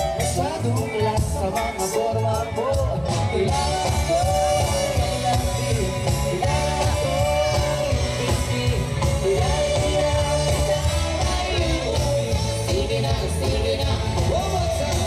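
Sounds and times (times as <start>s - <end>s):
person singing: 0.0s - 15.0s
pulsing bass: 0.0s - 15.0s.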